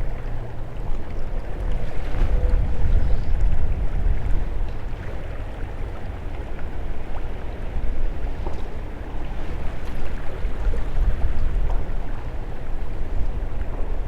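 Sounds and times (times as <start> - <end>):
creek water running: 0.0 - 14.0
wind rumbling on microphone: 0.0 - 14.0.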